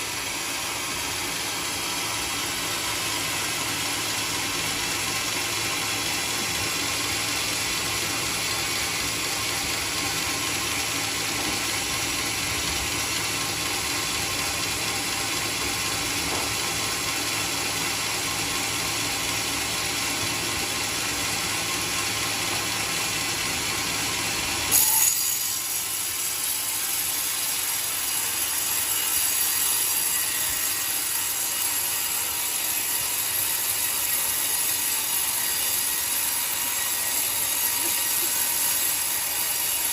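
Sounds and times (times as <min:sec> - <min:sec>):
sawmill cutting log: 0:00.0 - 0:39.9.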